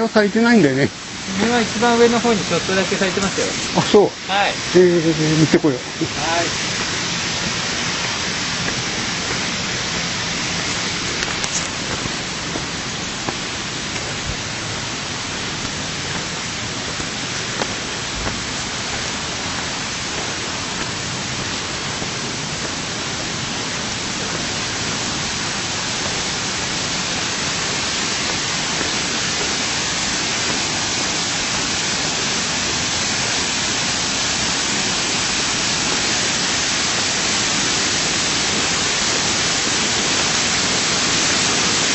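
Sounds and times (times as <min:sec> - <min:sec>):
falling water rushing: 0:00.0 - 0:41.9.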